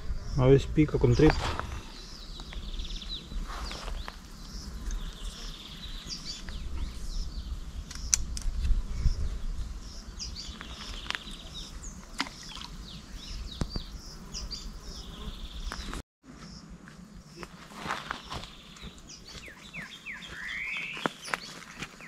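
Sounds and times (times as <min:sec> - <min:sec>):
birds chirping: 0:00.0 - 0:08.4, 0:09.0 - 0:22.0.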